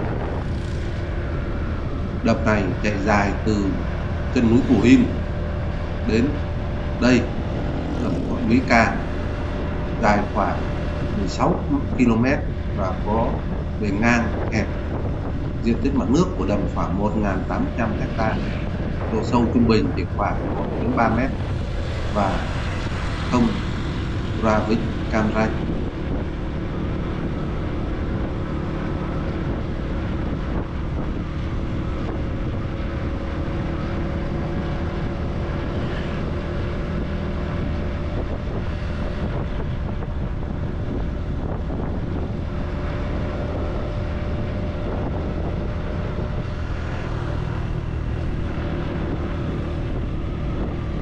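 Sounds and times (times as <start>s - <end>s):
motorcycle cruising: 0.0s - 51.0s
wind on microphone: 0.0s - 51.0s.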